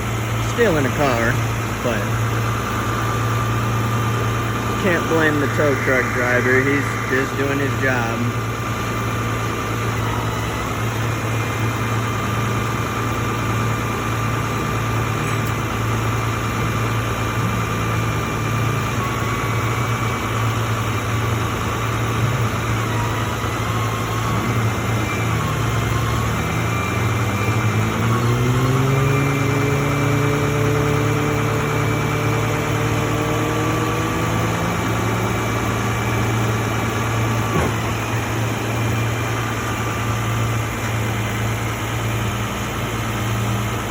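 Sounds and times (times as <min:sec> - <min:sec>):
engine accelerating: 0:00.0 - 0:43.9
vehicle engine idling: 0:00.0 - 0:43.9.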